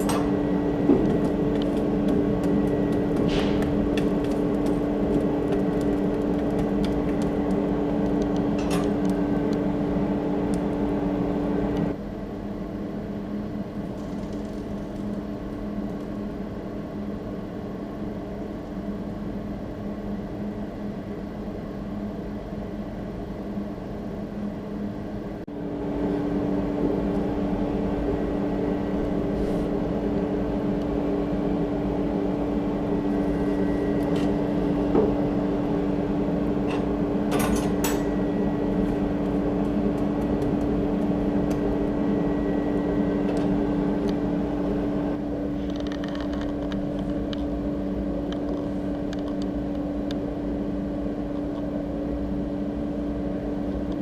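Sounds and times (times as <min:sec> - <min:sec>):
forge blower humming: 0:00.0 - 0:54.0.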